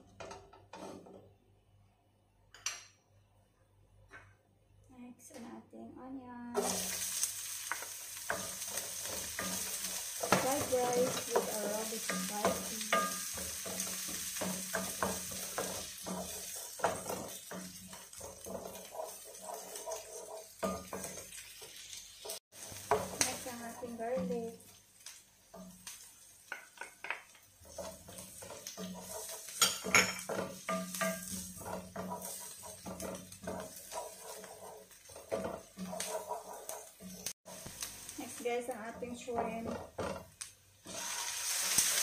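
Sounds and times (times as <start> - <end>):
onions sizzling in a wok: 6.3 - 42.0
wooden spoon scraping a pan: 6.6 - 42.0.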